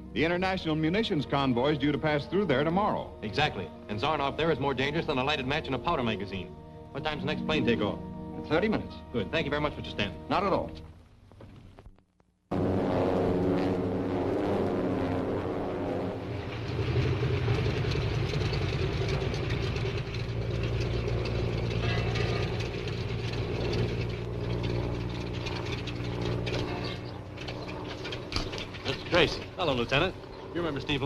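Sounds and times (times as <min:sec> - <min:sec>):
propeller airplane engine: 0:00.0 - 0:11.8, 0:12.5 - 0:31.0.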